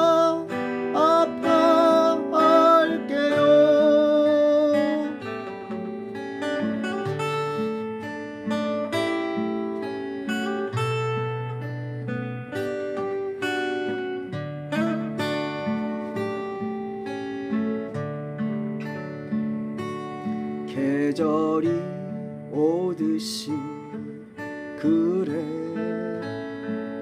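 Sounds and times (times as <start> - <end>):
acoustic guitar plucked and strummed: 0.0 - 27.0.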